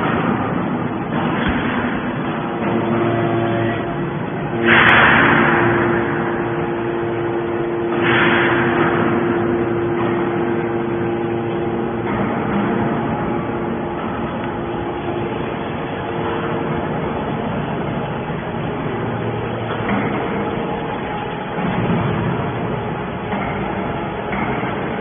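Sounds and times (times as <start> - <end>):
loud hydraulic rushing surges: 0.0 - 25.0
machine hum: 0.0 - 25.0.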